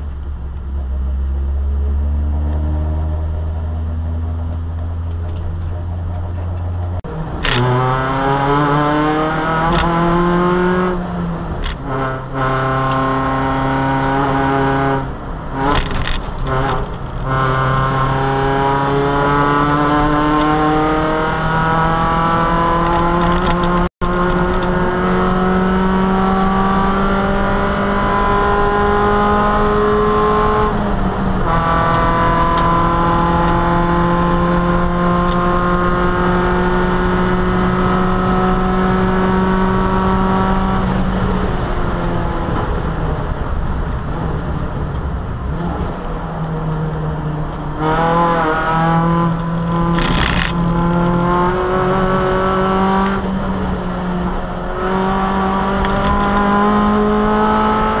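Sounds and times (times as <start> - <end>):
throttle blips on downshifts: 0.0 - 42.3, 47.2 - 58.0
race car engine revving: 0.6 - 58.0.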